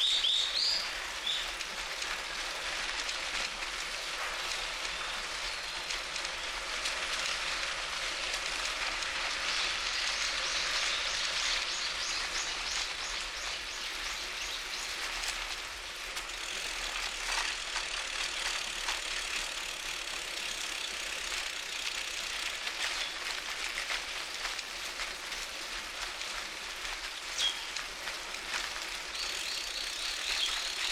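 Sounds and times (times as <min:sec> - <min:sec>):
bicycle tyres hissing on road: 0:00.0 - 0:30.9
bike rattling and ticking: 0:00.0 - 0:30.9.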